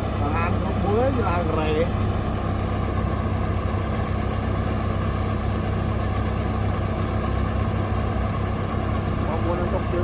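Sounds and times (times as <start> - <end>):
heavy engine humming: 0.0 - 10.0.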